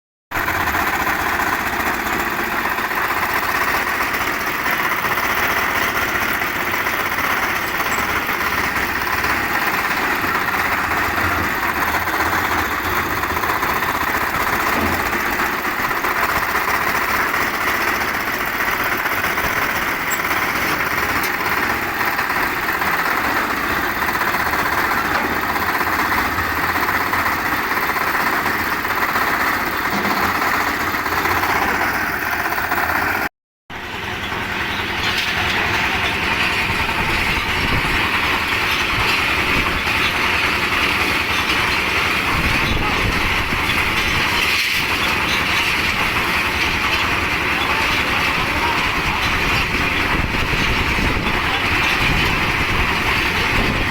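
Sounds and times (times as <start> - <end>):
concrete mixer engine running: 0.3 - 53.9.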